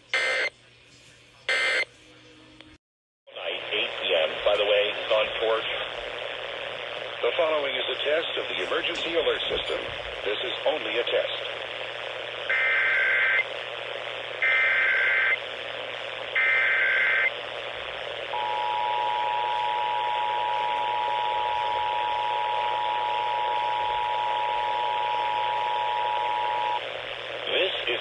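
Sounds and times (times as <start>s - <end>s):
radio hiss: 3.3s - 28.0s.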